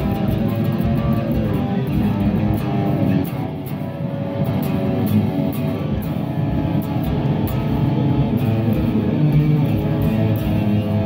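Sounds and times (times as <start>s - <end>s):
heavy metal electric guitar riffs: 0.0s - 11.0s.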